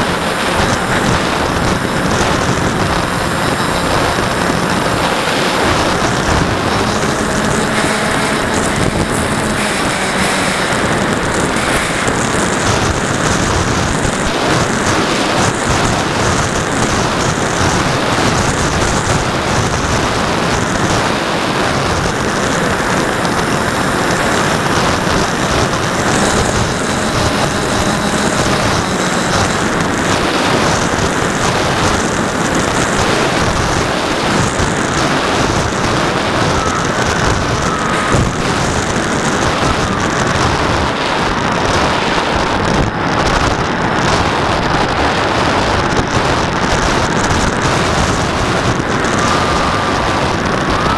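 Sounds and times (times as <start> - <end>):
model plane propellers running: 0.0 - 50.9
wind rushing over camera: 0.0 - 50.9.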